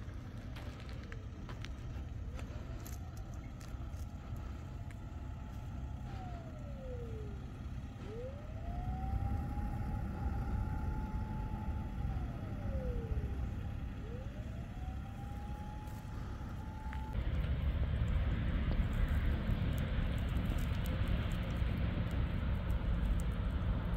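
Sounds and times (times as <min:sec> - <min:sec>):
distant siren wailing: 0:00.0 - 0:23.9.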